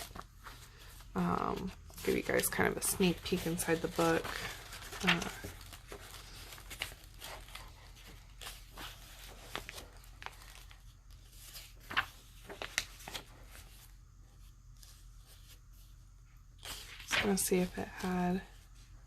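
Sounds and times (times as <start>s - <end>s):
book pages turning: 0.0s - 15.9s, 16.6s - 18.8s.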